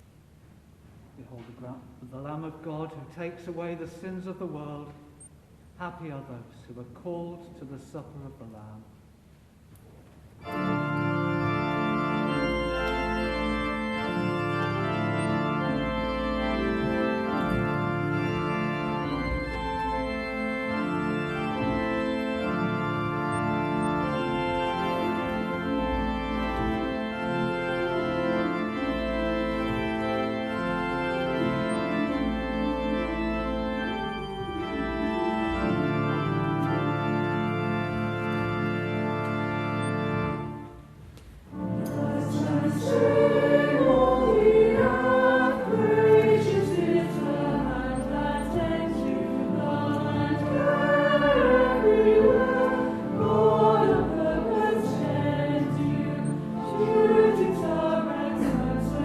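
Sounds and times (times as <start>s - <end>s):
organ playing chords: 10.4s - 59.0s
choir singing a hymn: 10.5s - 40.7s, 41.5s - 59.0s.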